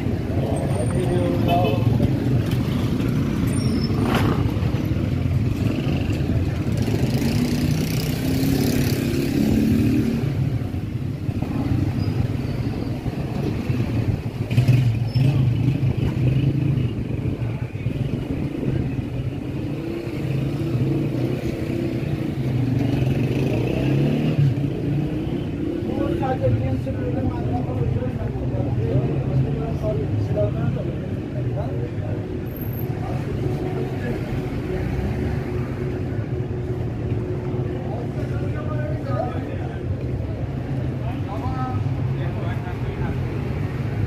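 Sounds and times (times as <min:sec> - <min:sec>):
motorcycle and car engines passing: 0:00.0 - 0:44.0.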